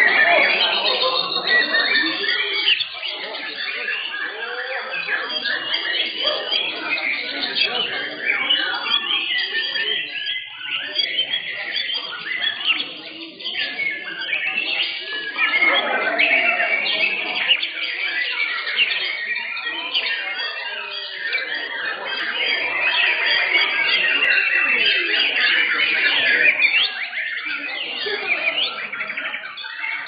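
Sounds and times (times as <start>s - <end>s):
birds singing chirps and trills: 0.0s - 30.0s
crowd chatter: 0.0s - 30.0s.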